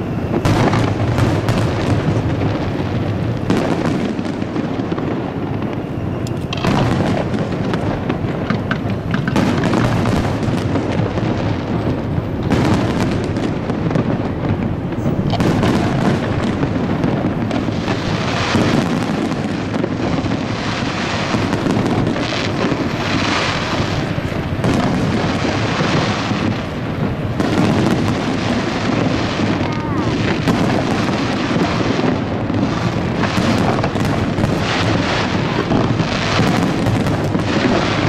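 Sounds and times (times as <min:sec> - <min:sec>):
firework booms and bangs: 0:00.0 - 0:38.0
firework crackling: 0:00.0 - 0:38.0.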